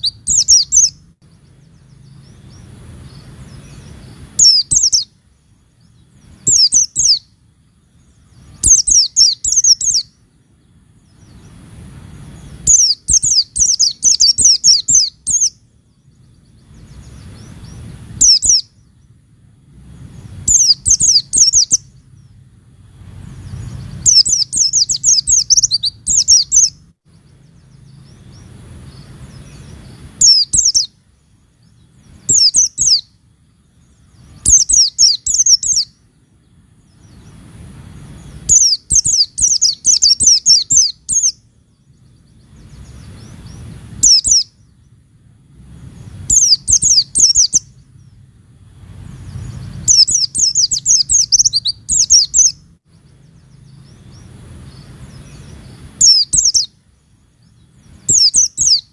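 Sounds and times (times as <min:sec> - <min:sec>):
bird twittering: 0:00.0 - 0:10.3, 0:11.0 - 0:19.1, 0:20.0 - 0:36.1, 0:36.8 - 0:45.0, 0:45.8 - 0:58.9.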